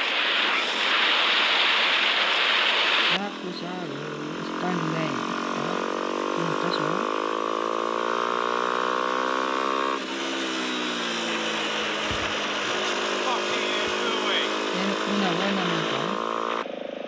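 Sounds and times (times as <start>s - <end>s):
motorcycle engine accelerating: 3.2s - 17.0s.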